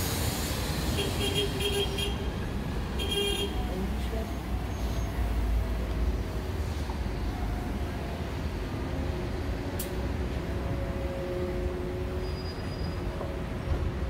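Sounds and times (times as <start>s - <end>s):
passing traffic rumble: 0.0s - 14.0s.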